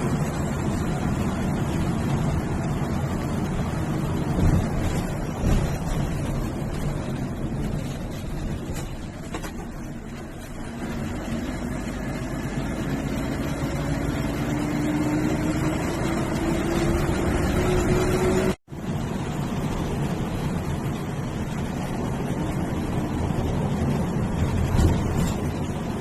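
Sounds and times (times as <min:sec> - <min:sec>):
bus diesel engine pulling away: 0:00.0 - 0:26.0
road noise: 0:00.0 - 0:26.0.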